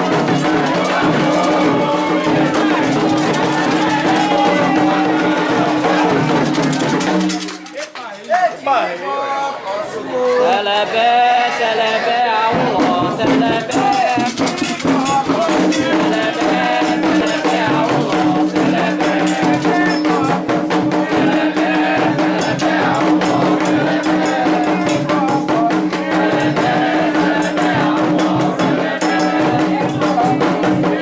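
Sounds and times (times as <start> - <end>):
rapidly shaken rattles: 0.0 - 8.6, 12.6 - 31.0
percussion music: 0.0 - 8.8, 10.4 - 31.0.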